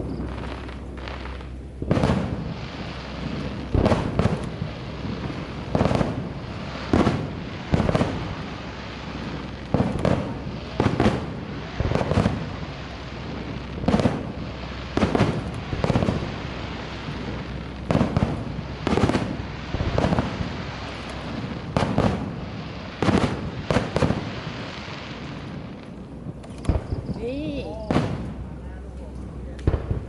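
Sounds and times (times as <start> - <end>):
firework bangs with echo: 0.0 - 30.0.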